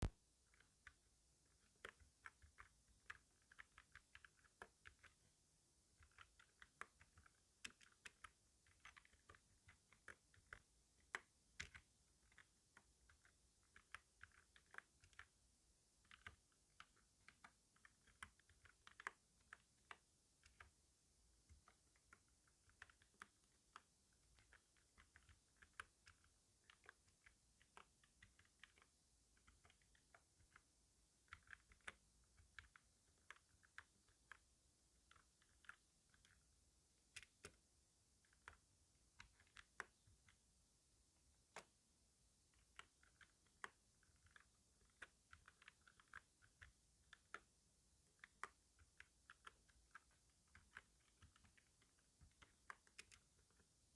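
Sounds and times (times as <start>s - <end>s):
typing on keyboard: 0.0s - 5.3s, 5.9s - 40.4s, 42.5s - 53.9s.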